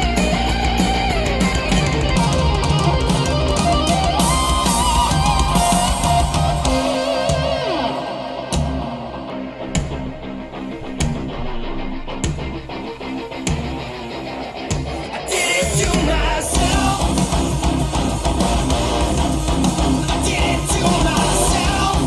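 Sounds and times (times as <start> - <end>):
rock song on speakers: 0.0 - 22.0.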